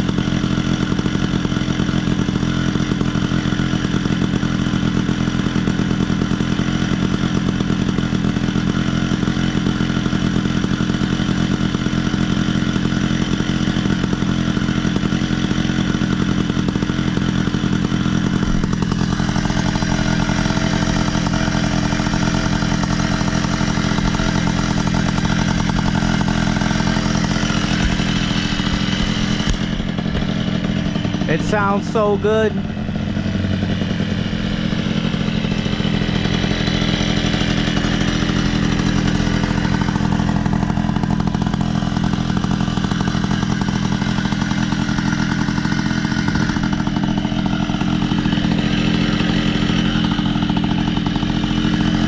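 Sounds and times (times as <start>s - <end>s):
moped engine running: 0.0s - 52.0s.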